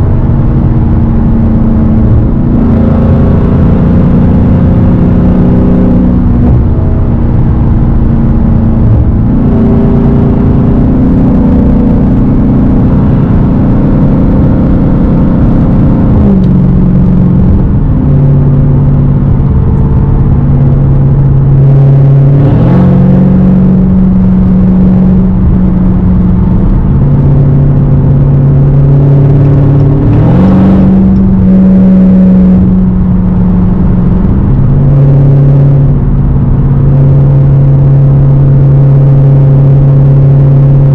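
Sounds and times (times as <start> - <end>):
car engine droning while driving: 0.0 - 40.9.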